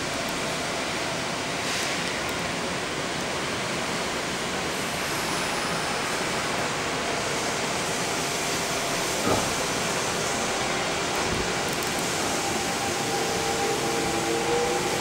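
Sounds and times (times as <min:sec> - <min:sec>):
air-conditioning rush: 0:00.0 - 0:15.0.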